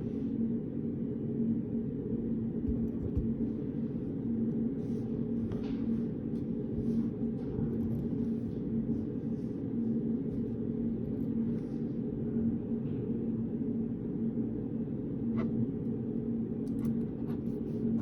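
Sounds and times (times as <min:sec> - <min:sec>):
ventilation hum: 0:00.0 - 0:18.0.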